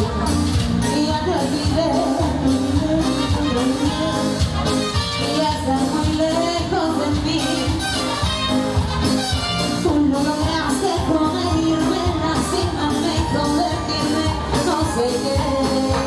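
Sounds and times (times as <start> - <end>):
person singing: 0.0 - 8.8, 9.6 - 16.0
latin dance band playing: 0.0 - 16.0.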